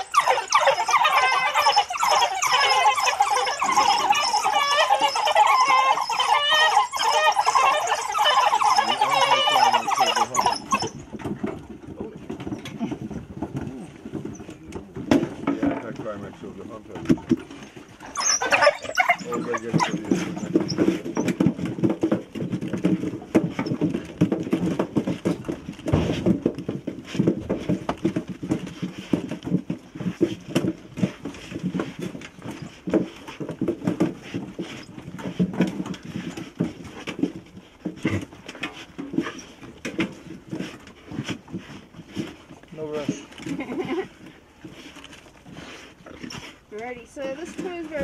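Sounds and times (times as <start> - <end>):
dogs crunching biscuits: 0.0 - 12.0, 16.1 - 46.7
dogs growling: 0.0 - 14.4, 16.2 - 46.7.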